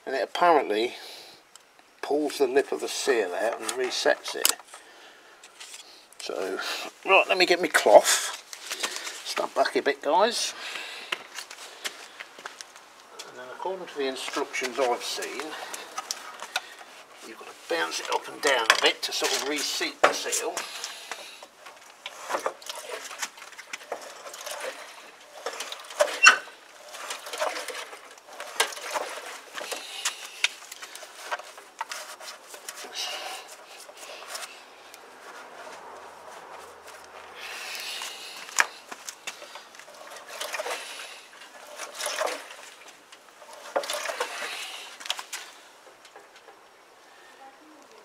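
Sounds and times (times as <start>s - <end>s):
cloth rag rustling on metal: 5.5s - 46.4s.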